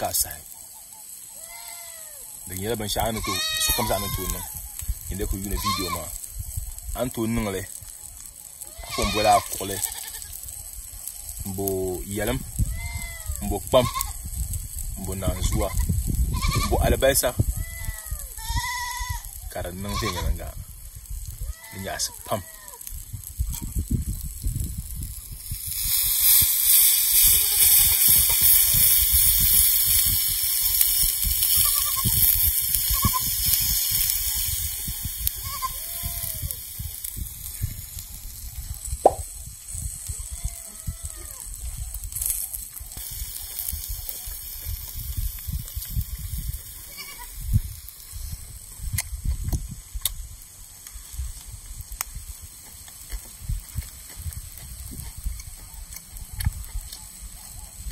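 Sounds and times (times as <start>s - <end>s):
loud steady hiss: 0.0s - 57.9s.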